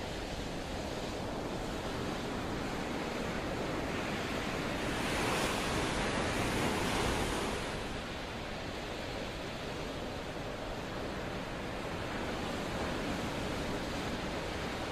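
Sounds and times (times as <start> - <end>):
sea rushing: 0.0 - 14.9.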